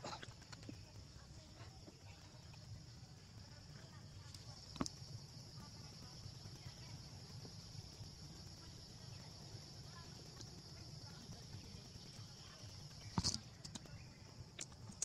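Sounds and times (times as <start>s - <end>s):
high-pitched hiss: 1.1s - 15.0s.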